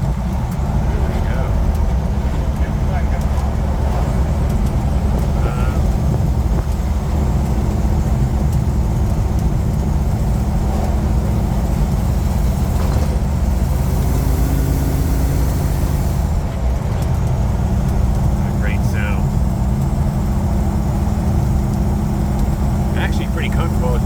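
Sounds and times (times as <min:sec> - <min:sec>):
car engine running: 0:00.0 - 0:24.0
road noise: 0:00.0 - 0:24.0.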